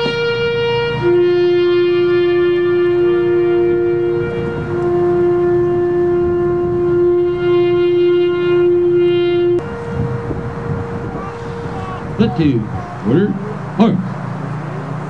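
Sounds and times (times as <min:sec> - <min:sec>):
wind instruments playing chords: 0:00.0 - 0:15.0.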